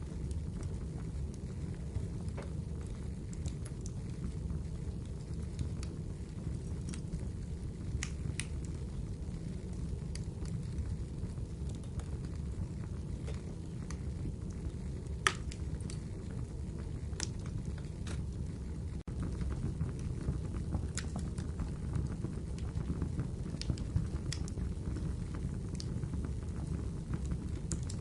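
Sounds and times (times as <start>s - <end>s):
fire crackling and popping: 0.0s - 28.0s
fire rumbling in fireplace: 0.0s - 28.0s.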